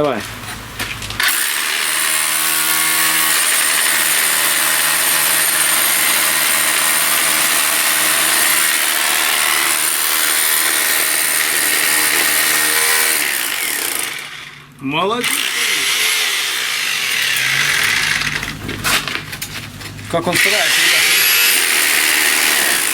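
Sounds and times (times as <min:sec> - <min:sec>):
rotary hammer chiselling wall: 0:00.2 - 0:14.6, 0:15.3 - 0:22.9.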